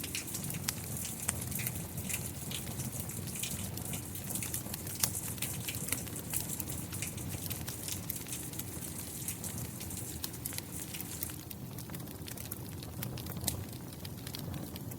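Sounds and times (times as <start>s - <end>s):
steady rain: 0.0s - 14.9s
wood fire crackling: 0.0s - 14.9s.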